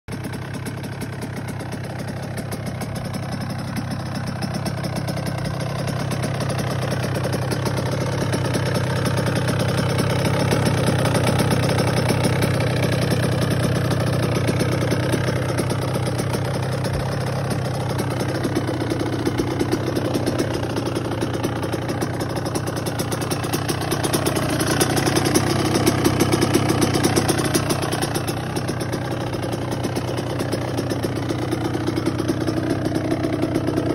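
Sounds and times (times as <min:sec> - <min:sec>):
two-stroke engine idling: 0:00.1 - 0:33.9.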